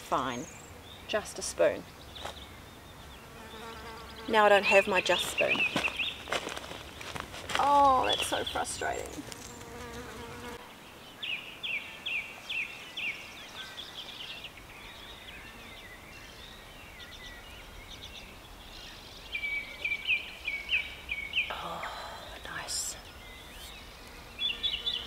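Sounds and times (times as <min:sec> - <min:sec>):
bird chirping: 0:00.1 - 0:07.1, 0:07.7 - 0:25.0.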